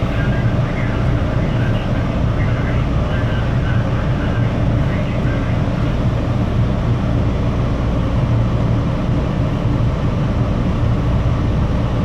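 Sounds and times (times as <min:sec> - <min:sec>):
subway car rumbling on track: 0:00.0 - 0:12.0.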